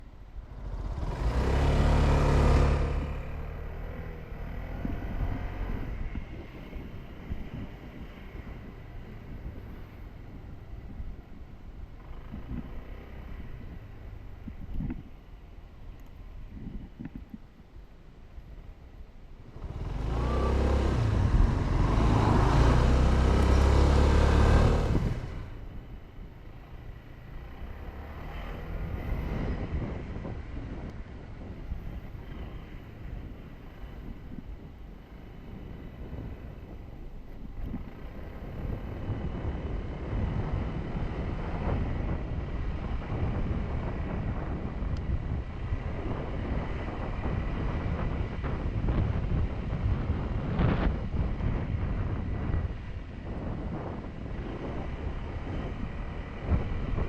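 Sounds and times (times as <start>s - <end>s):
motorcycle engine running: 0.0s - 17.4s, 19.4s - 57.0s.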